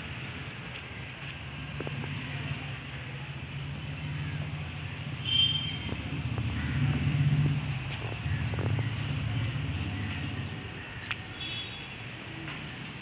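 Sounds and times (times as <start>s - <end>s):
motor vehicle rumble: 0.0s - 10.9s.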